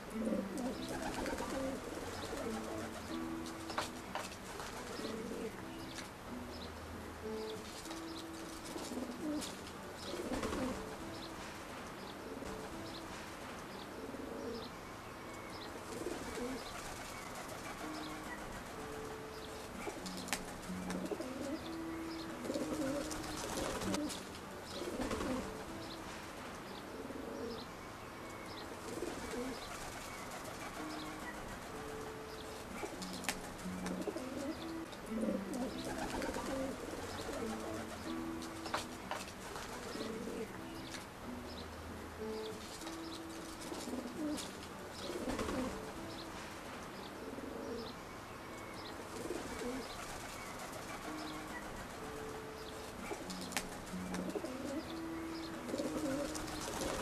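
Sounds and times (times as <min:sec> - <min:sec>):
pigeons cooing: 0:00.0 - 0:11.4, 0:13.8 - 0:14.7, 0:15.5 - 0:26.1, 0:26.8 - 0:27.7, 0:28.5 - 0:46.4, 0:47.0 - 0:48.0, 0:48.8 - 0:57.0.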